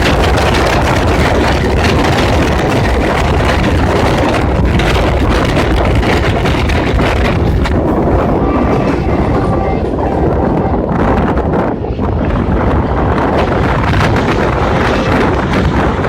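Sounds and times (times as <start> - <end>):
train passing rumble: 0.0 - 16.0.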